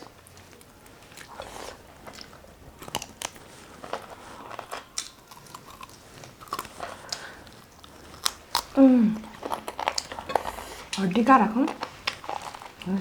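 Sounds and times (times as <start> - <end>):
biting and chewing chicken: 0.0 - 13.0.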